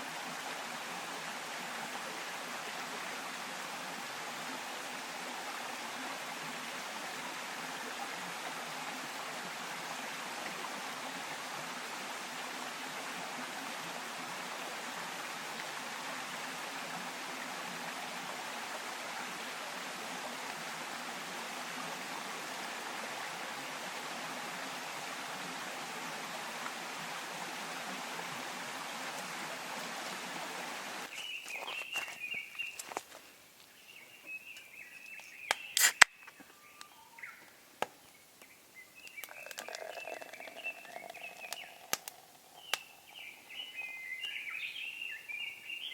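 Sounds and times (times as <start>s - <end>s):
mountain stream flowing: 0.0s - 45.9s.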